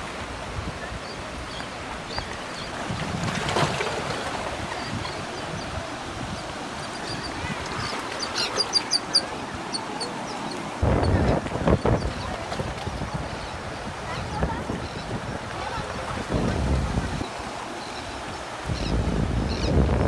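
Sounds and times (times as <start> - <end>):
sea surf washing on beach: 0.0 - 20.0.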